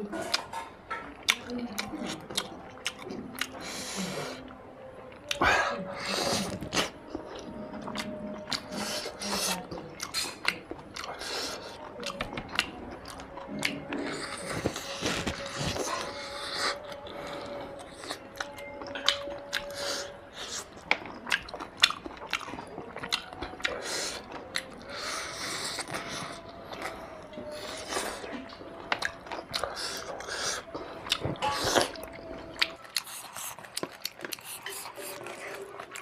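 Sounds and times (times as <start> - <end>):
wet chewing with mouth clicks: 0.0 - 36.0.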